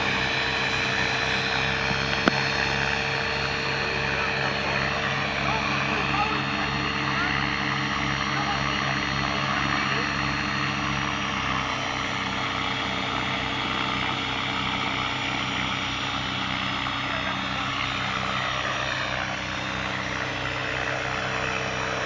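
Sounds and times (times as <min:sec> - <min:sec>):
rc helicopters hovering: 0:00.0 - 0:22.0.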